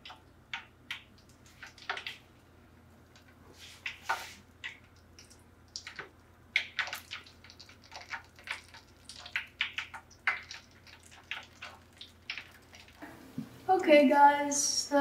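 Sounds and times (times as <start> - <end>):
oil crackling and popping in a pan: 0.0 - 13.0.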